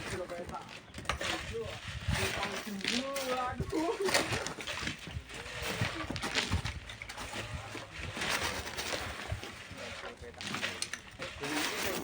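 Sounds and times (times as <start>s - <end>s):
shovels scraping sand: 0.0s - 12.0s.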